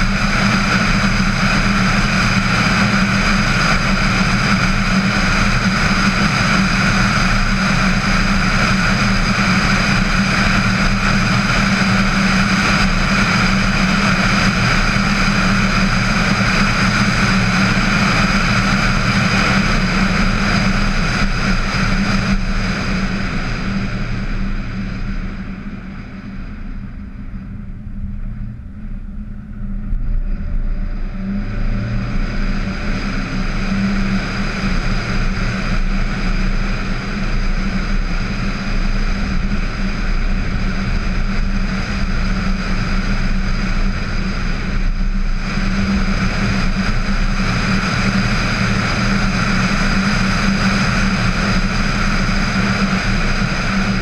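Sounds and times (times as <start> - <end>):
car tyre and engine noise: 0.0 - 54.0
wind noise: 0.0 - 54.0.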